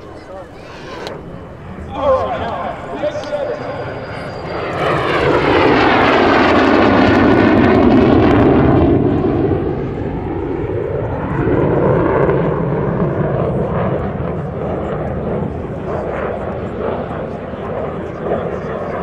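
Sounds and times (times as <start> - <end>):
jet flying past: 0.0 - 19.0.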